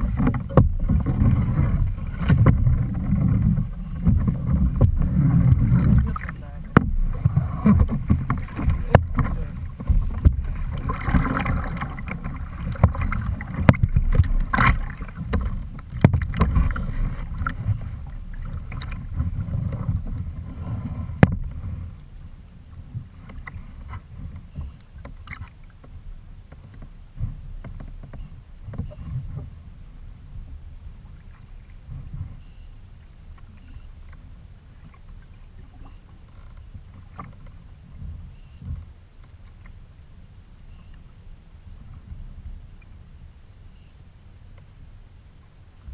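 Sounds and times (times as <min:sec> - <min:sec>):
knocks and clicks on hull: 0:00.0 - 0:29.7, 0:30.3 - 0:39.8, 0:44.4 - 0:44.8
water sloshing against kayak: 0:00.0 - 0:45.9
wind rumble on microphone: 0:00.0 - 0:45.9.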